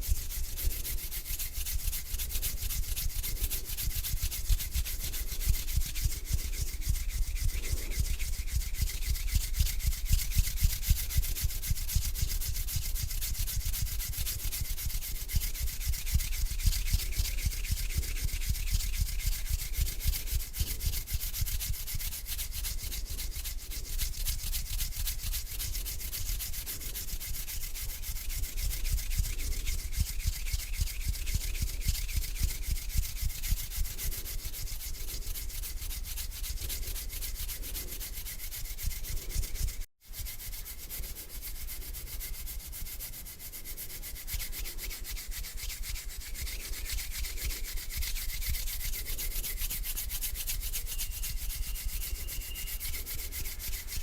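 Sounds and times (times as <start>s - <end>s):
hands rubbing together: 0.0s - 54.0s.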